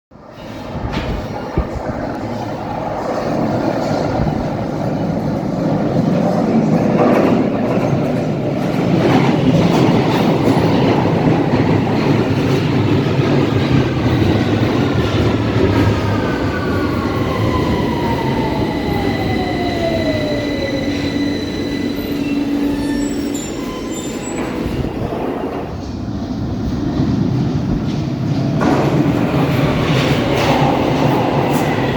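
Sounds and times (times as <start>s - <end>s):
train wheels rumbling on rails: 0.2s - 31.9s.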